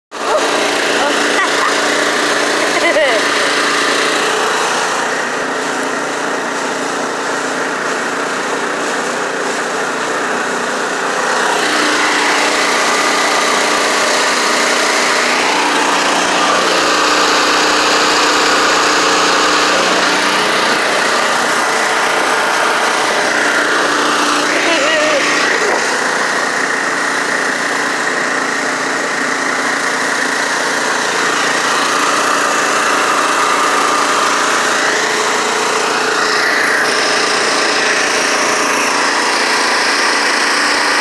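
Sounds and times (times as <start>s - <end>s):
small boat engine running: 0.1s - 41.0s
water rushing along hull: 0.1s - 41.0s.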